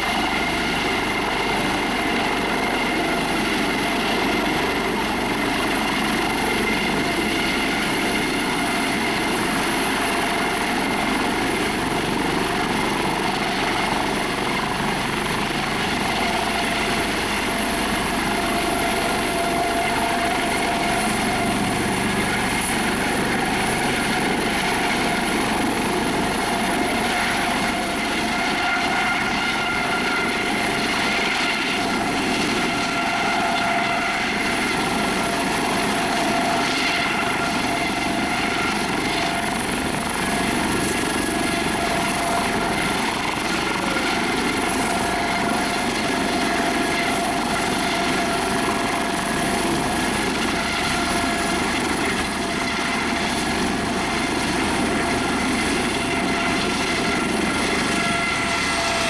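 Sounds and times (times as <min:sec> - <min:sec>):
helicopter turbine and rotor: 0:00.0 - 0:59.0.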